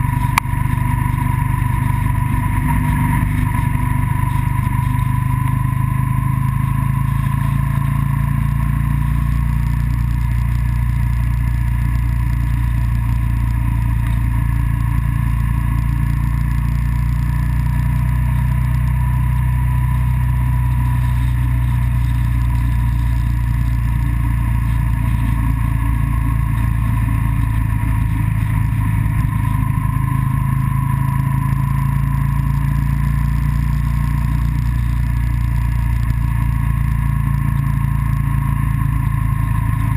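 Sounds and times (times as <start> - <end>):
engine drone: 0.0 - 39.9
road and wind rush: 0.0 - 39.9
steady whine: 0.0 - 39.9.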